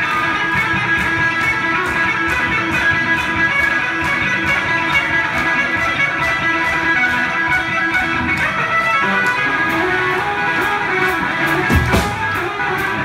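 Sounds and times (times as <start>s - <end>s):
drum kit with cymbals: 0.0s - 13.0s
electric guitar: 0.0s - 13.0s.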